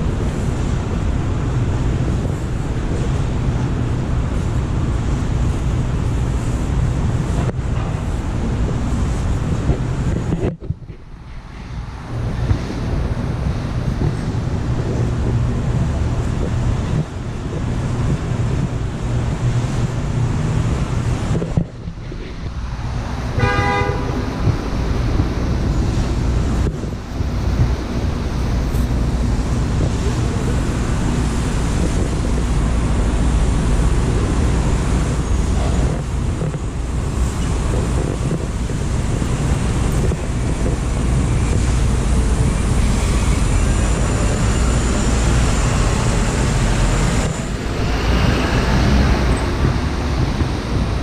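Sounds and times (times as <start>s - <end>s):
passing vehicles: 0.0s - 51.0s.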